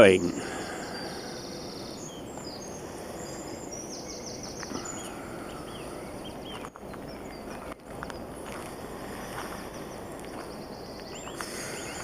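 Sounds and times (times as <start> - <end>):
background hiss: 0.0 - 12.0
songbirds chirping and trilling: 0.0 - 12.0.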